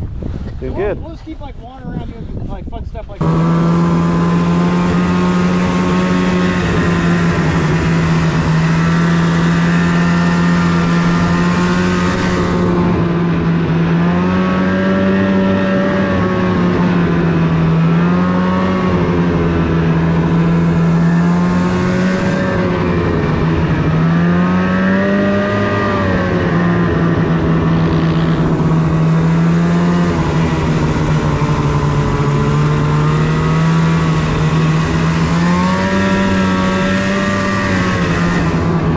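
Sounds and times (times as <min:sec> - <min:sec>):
snowmobile engine running: 0:00.5 - 0:01.2, 0:03.1 - 0:38.9.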